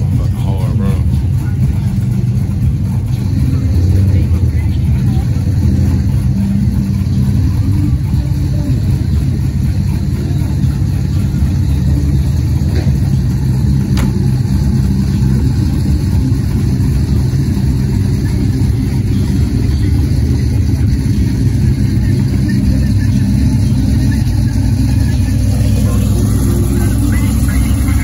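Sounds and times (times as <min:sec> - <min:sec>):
car engine low rumble: 0:00.0 - 0:28.0.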